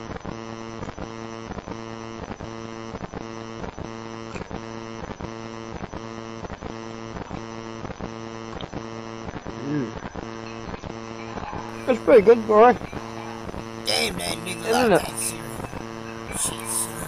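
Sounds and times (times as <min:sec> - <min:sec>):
electrical mains hum with buzz: 0:00.0 - 0:17.0.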